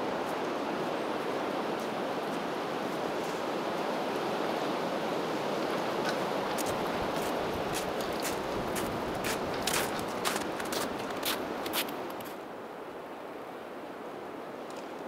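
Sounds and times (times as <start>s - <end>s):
stream water rushing: 0.0s - 14.6s.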